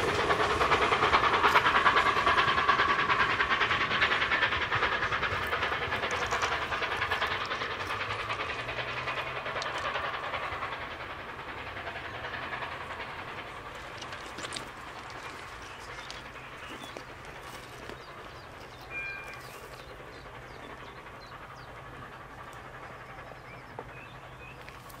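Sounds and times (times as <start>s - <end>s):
steam locomotive exhaust beating: 0.0s - 25.0s.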